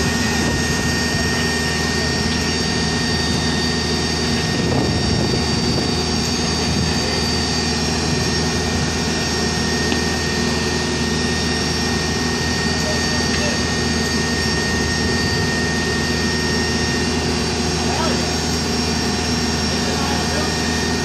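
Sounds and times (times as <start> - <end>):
diesel engine running under load: 0.0 - 21.0
high whine: 0.0 - 21.0.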